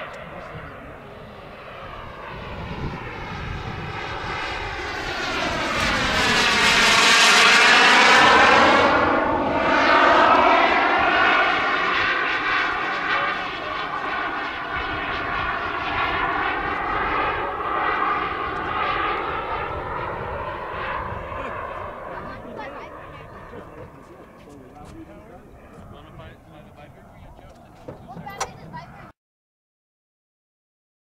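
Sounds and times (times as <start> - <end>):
model jet turbine whine: 0.0 - 29.1.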